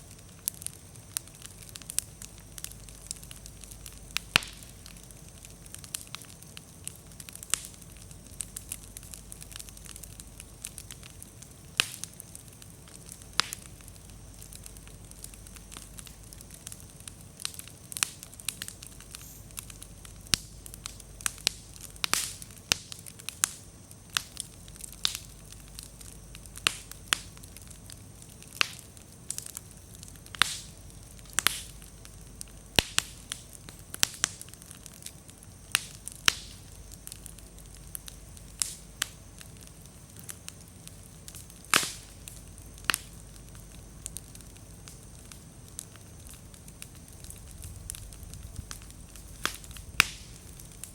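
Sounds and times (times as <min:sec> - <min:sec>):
bonfire crackling and popping: 0:00.0 - 0:50.9.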